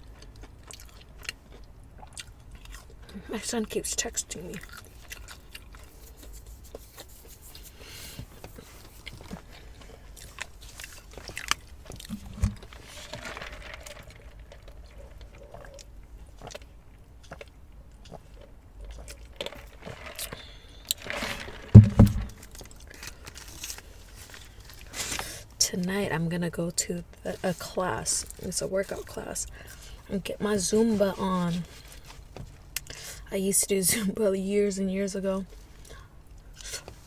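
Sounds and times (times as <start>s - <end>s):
chewing and crunching food: 0.0s - 25.6s, 27.0s - 33.3s, 35.4s - 37.0s.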